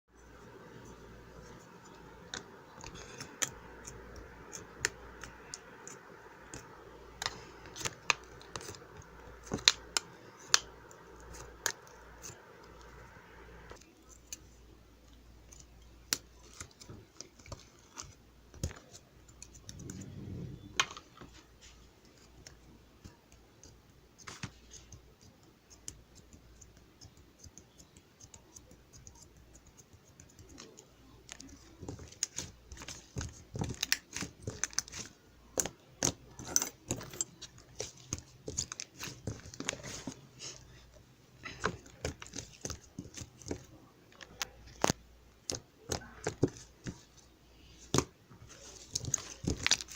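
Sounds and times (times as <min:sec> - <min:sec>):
steady background hum: 0:00.1 - 0:27.0, 0:28.7 - 0:49.9
small clicks and scratchy taps: 0:00.4 - 0:20.1, 0:22.0 - 0:49.9.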